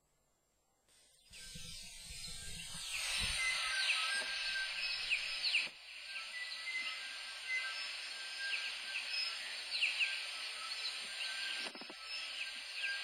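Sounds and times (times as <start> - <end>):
dense high hiss: 1.4 - 13.0.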